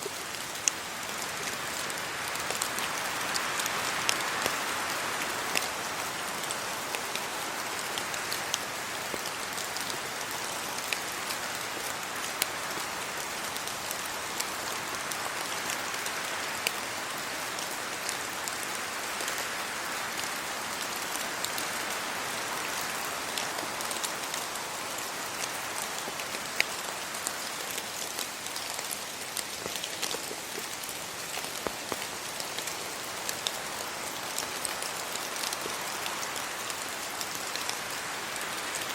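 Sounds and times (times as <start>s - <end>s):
close raindrops striking: 0.0s - 38.9s
steady rain patter: 0.0s - 38.9s.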